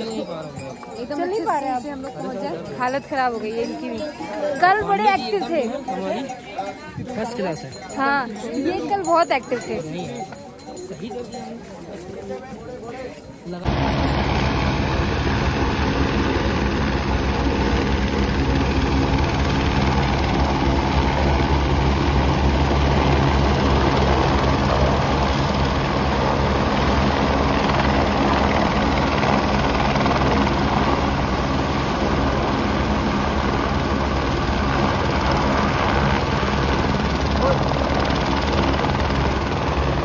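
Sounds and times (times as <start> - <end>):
helicopter rotors and engines: 0.0 - 40.0.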